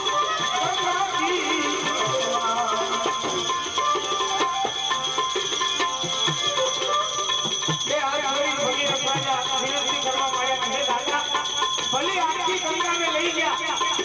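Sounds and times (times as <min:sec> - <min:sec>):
high metallic jingling: 0:00.0 - 0:14.0
percussion beat: 0:00.0 - 0:14.0.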